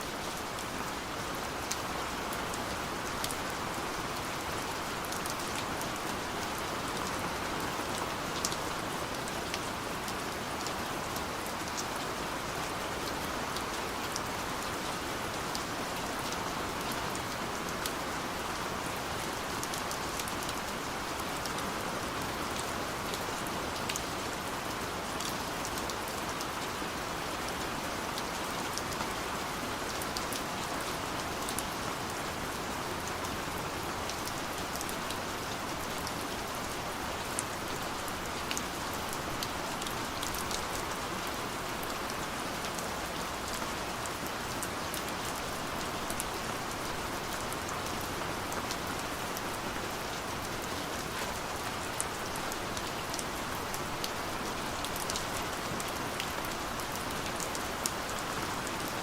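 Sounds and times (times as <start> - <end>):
steady rain hissing: 0.0 - 59.0
raindrops ticking on surfaces: 0.1 - 59.0.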